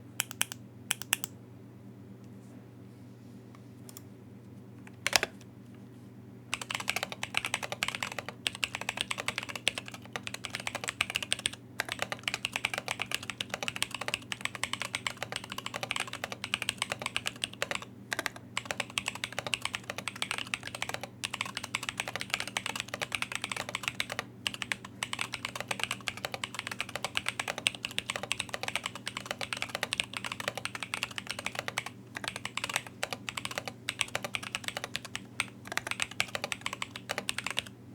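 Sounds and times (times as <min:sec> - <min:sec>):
mechanical keyboard typing: 0:06.5 - 0:37.7.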